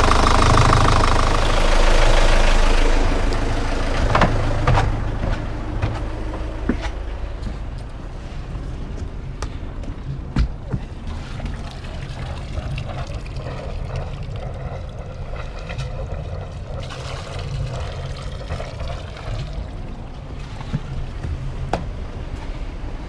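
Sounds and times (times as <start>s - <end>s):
water splashing from exhaust: 0.0s - 6.5s, 10.7s - 23.0s
marine diesel engine running: 0.0s - 23.0s.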